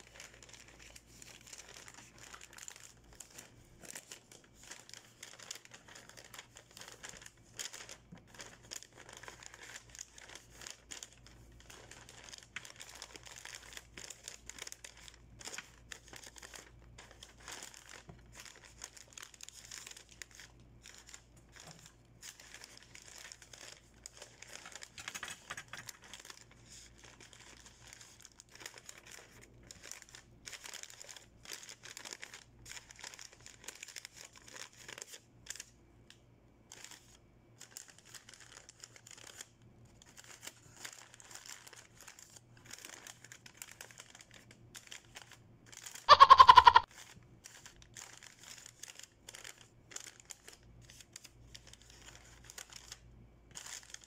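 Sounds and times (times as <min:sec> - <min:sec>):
wrapping paper crinkling: 0:00.0 - 0:54.0.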